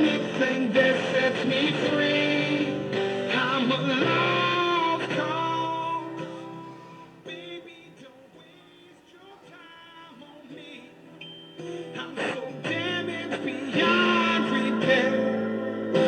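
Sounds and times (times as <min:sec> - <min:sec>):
guitar playing: 0:00.0 - 0:16.0
man singing: 0:00.0 - 0:16.0.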